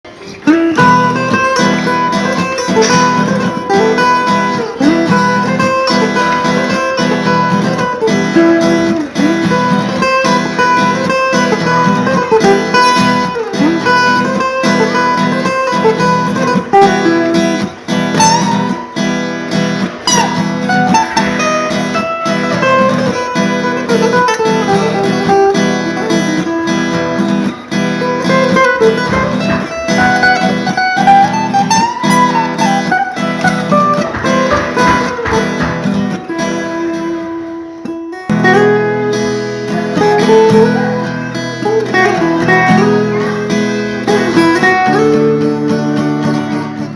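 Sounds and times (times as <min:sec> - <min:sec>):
strummed guitar chords: 0:00.0 - 0:46.9
lead guitar solo: 0:00.1 - 0:46.9.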